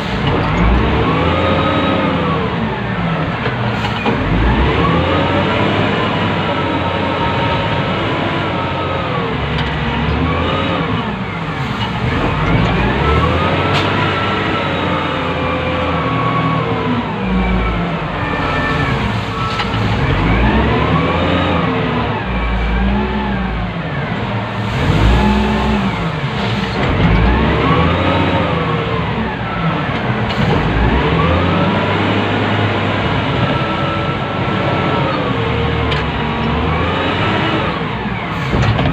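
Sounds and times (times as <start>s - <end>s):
diesel engine revving: 0.0s - 38.9s
mechanical drone: 0.0s - 38.9s.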